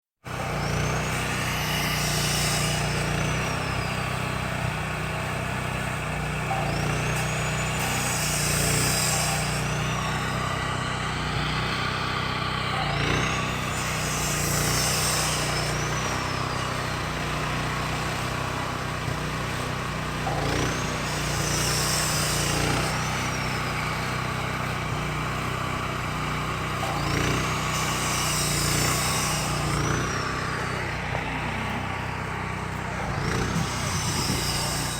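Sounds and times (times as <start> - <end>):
heavy machinery droning: 0.3 - 34.9
high machine whine: 6.5 - 34.9.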